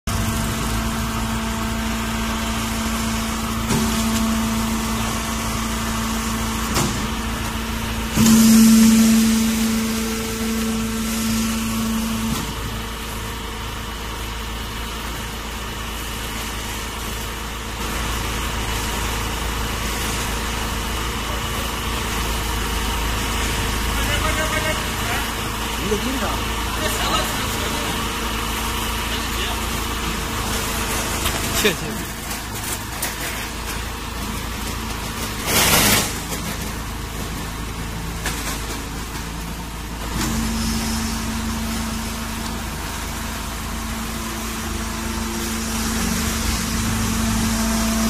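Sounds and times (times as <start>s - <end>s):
baling press humming: 0.1s - 17.1s, 17.7s - 48.0s.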